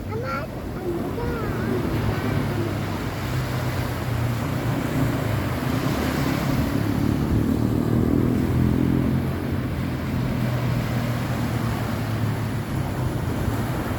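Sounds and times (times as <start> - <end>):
sea rushing: 0.0 - 13.9.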